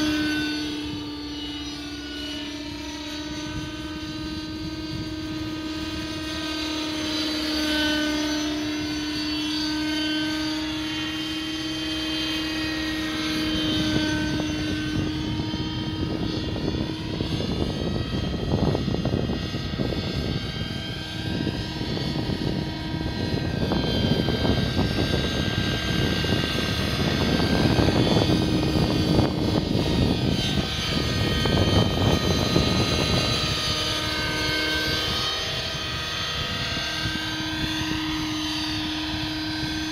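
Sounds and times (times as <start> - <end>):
rc helicopter engine and rotors: 0.0 - 39.9.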